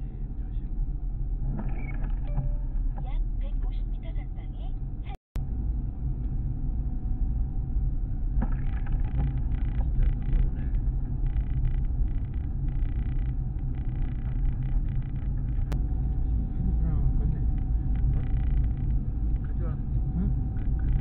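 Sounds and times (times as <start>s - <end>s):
engine and tyres rumbling: 0.0s - 21.0s.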